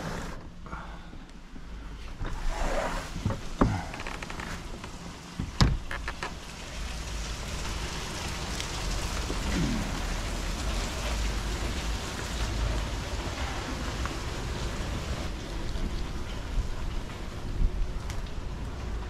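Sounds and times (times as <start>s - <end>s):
steady rain falling: 1.0s - 19.0s.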